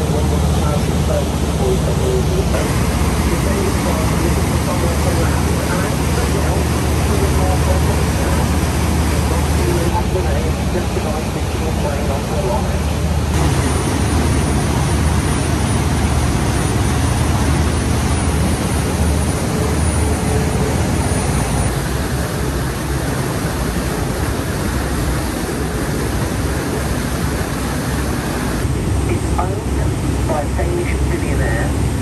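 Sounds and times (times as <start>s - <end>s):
boat engine drone: 0.0s - 32.0s
water rushing along hull: 0.0s - 32.0s.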